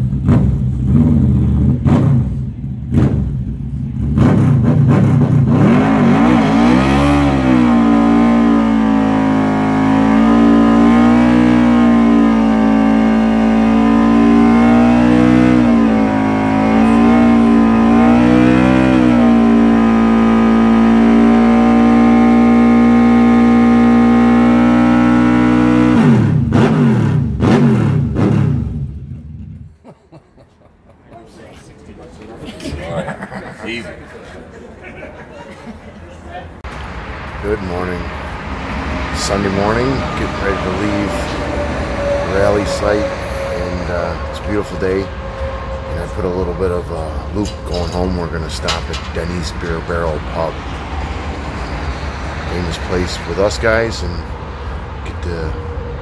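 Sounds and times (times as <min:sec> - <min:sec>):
motorcycle engine revving: 0:00.0 - 0:29.7, 0:36.6 - 0:56.0.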